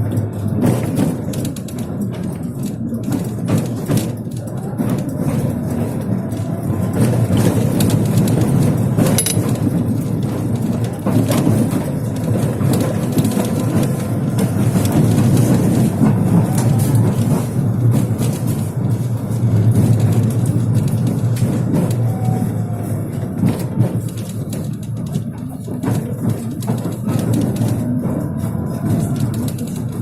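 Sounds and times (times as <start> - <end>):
tram wheels rumbling on rails: 0.0 - 30.0
wheels knocking over rails: 0.0 - 30.0.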